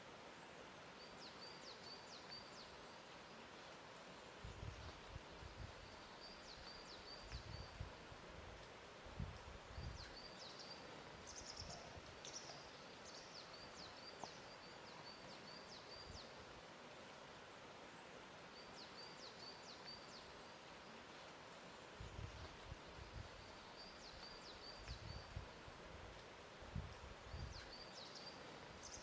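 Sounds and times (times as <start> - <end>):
soft even hiss: 0.0 - 29.0
small birds chirping: 0.4 - 8.8, 9.4 - 16.8, 17.5 - 29.0.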